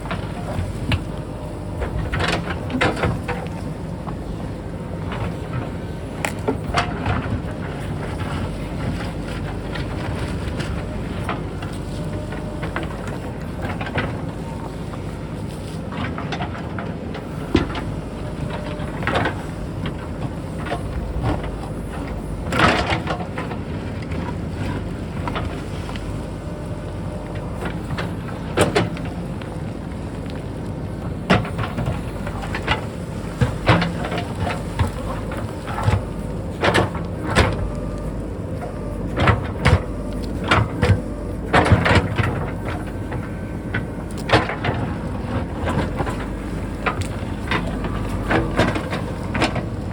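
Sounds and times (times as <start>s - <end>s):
diesel engine running: 0.0s - 49.9s
digging knocks and clatters: 4.8s - 49.9s.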